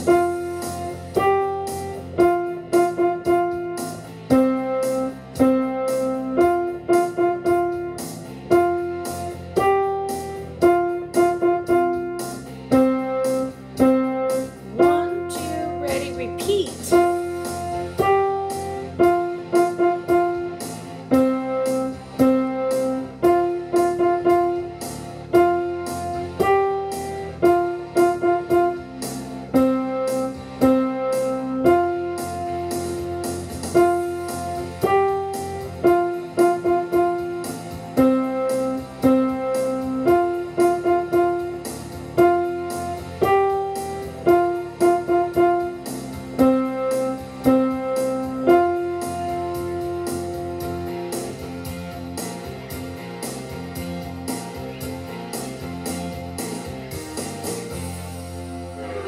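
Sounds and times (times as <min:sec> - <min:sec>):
piano melody: 0:00.0 - 0:59.0.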